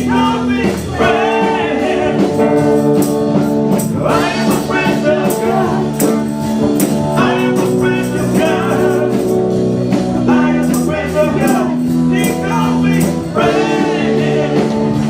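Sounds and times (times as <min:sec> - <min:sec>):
guitar chords: 0:00.0 - 0:15.0
tambourine beating: 0:00.0 - 0:15.0
voices singing: 0:00.0 - 0:15.0.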